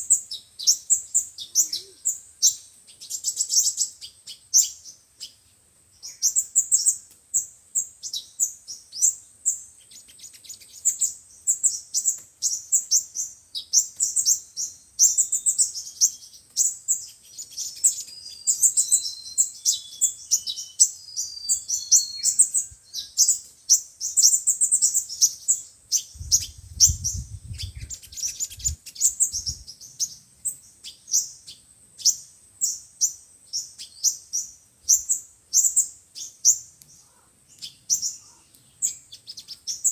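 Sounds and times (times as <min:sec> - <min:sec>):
sunbirds chirping and trilling: 0:00.0 - 0:39.9.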